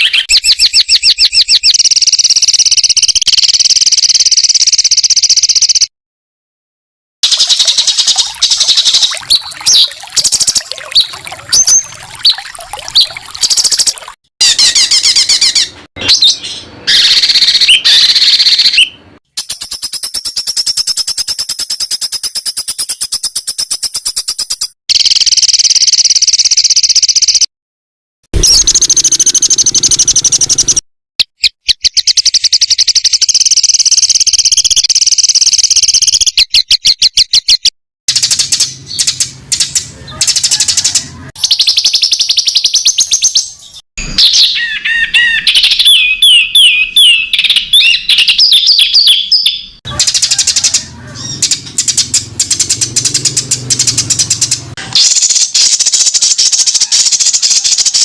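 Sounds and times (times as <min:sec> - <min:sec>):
fast rattling birdsong: 0:00.0 - 0:05.9, 0:07.2 - 0:27.5, 0:28.4 - 0:30.8, 0:31.4 - 0:58.0.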